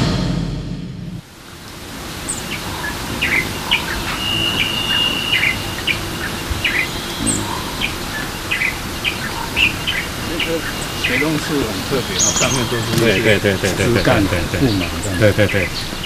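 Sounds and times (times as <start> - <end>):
steady background hiss: 1.2 - 16.0
birds chirping: 1.4 - 16.0
whistled bird note: 2.3 - 16.0.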